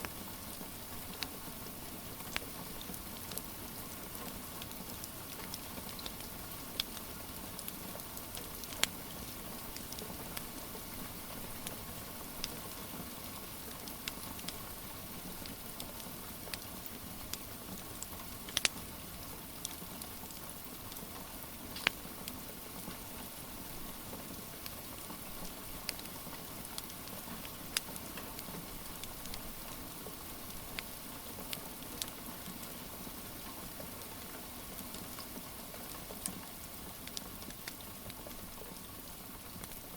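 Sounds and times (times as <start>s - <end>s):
wood fire crackling and popping: 0.0s - 19.0s, 19.6s - 23.2s, 24.6s - 32.7s, 36.1s - 38.6s, 39.6s - 39.9s
steady rain hiss: 0.0s - 39.9s.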